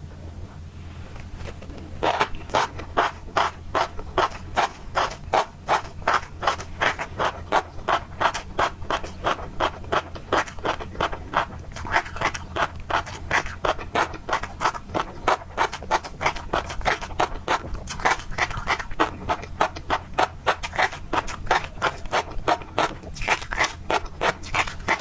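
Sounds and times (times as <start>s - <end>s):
low steady hum: 0.0s - 25.0s
chewing crunchy fish roe: 0.9s - 25.0s.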